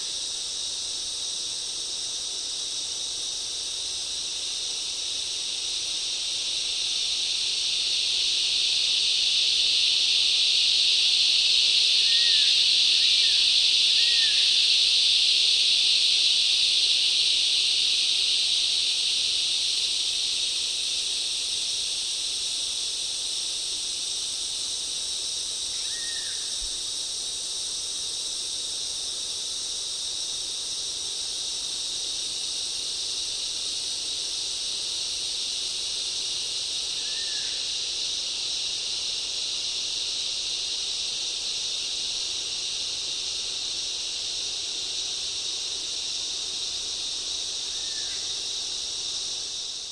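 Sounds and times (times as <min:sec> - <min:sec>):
insect chorus: 0:00.0 - 0:49.9.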